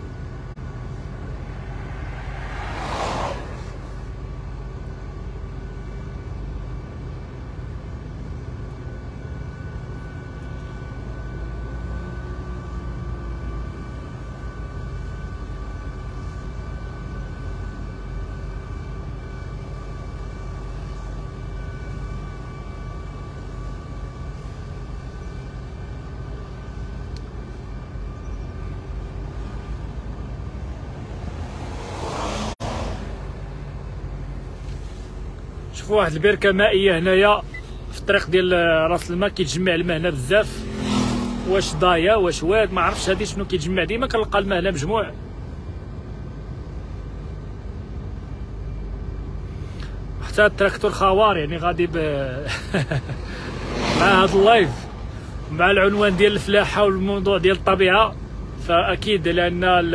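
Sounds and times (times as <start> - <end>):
car driving on asphalt: 0.0 - 59.9.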